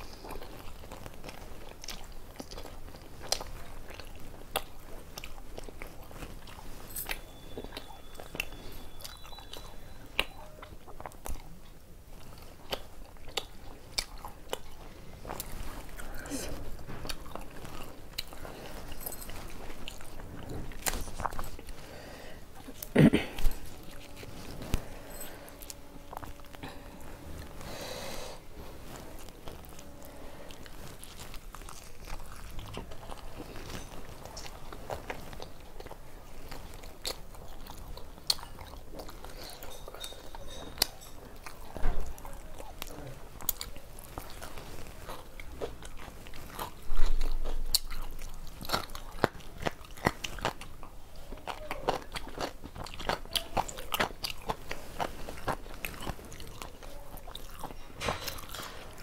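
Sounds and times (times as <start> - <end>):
person chewing and biting: 0.0 - 59.0.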